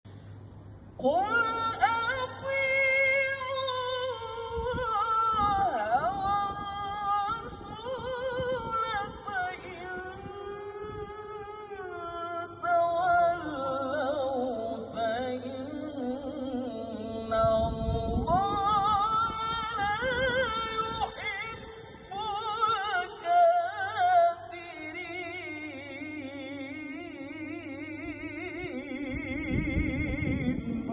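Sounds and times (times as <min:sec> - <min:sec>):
person reciting in melodic chant: 0:01.0 - 0:30.9.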